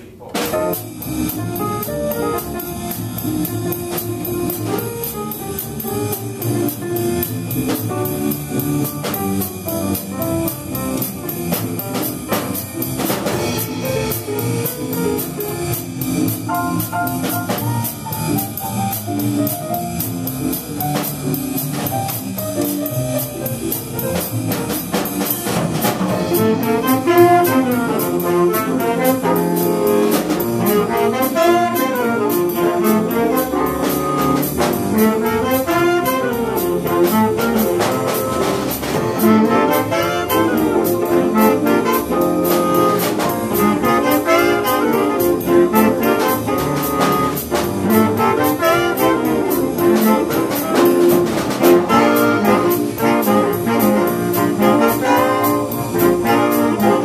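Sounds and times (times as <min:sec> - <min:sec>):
drum kit beat: 0:00.0 - 0:57.0
piano: 0:00.0 - 0:57.0
upright bass: 0:00.0 - 0:57.0
saxophones playing jazz: 0:00.1 - 0:57.0.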